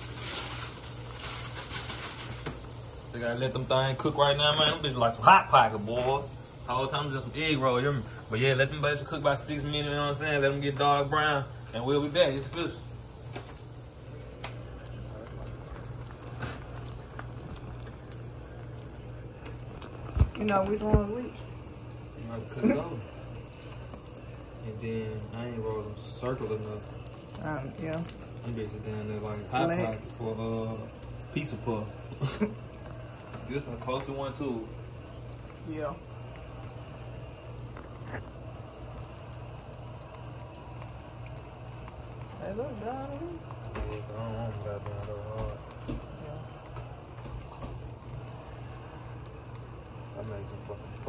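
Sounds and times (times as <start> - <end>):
low steady hum: 0.0 - 51.0
oil sizzling and bubbling: 0.0 - 51.0.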